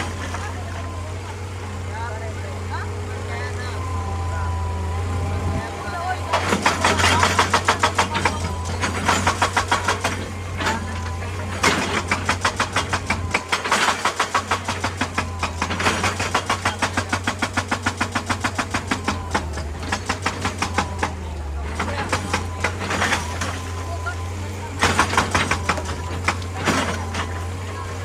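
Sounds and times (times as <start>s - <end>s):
diesel engine humming: 0.0s - 28.0s
hydraulic rock breaker hammering: 0.0s - 28.0s.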